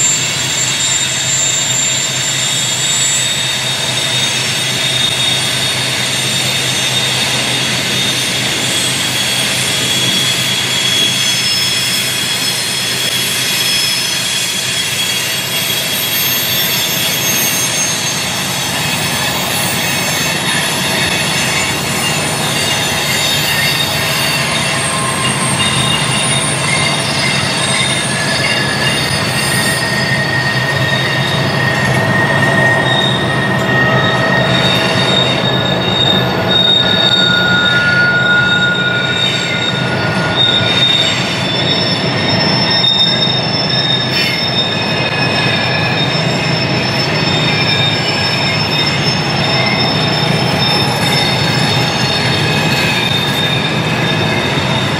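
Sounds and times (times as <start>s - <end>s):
rumble of wheels on rail: 0.0s - 54.9s
train wheels squealing: 0.0s - 54.9s.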